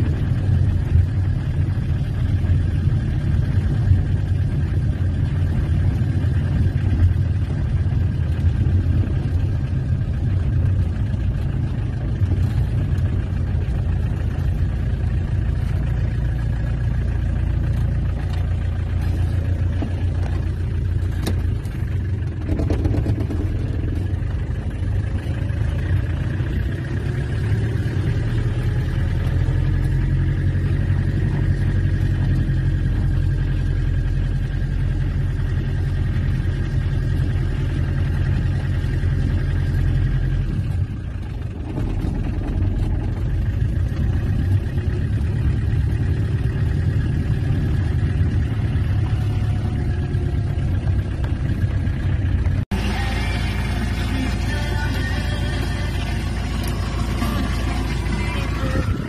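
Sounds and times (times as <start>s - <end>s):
diesel engine running: 0.0s - 59.0s
road noise: 0.0s - 59.0s.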